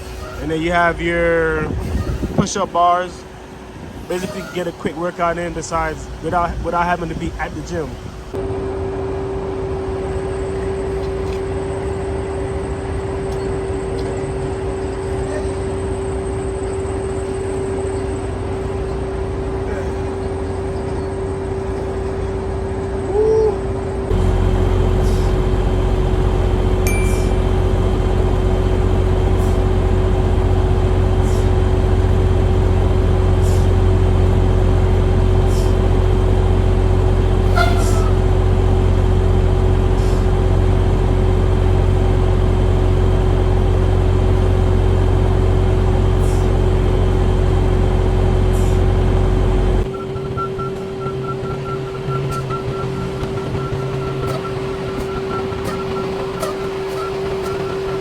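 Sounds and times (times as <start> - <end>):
diesel engine idling: 2.5 - 58.0.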